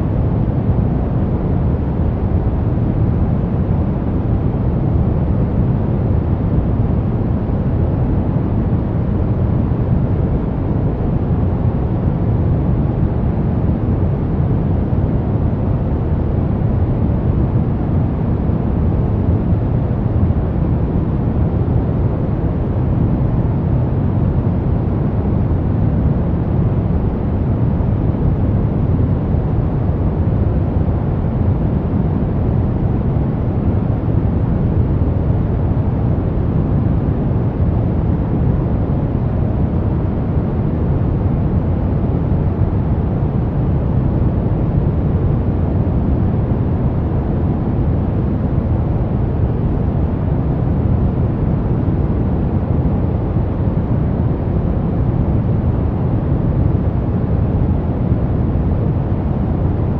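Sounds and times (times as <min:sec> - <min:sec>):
deep rumbling brown noise: 0:00.0 - 0:59.9.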